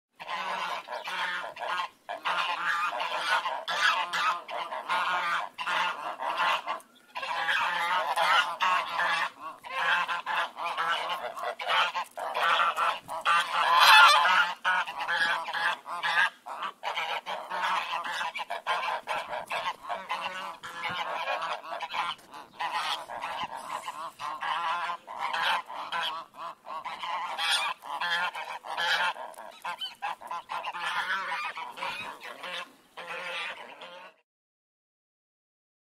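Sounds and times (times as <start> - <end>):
geese honking: 0.2 - 34.2.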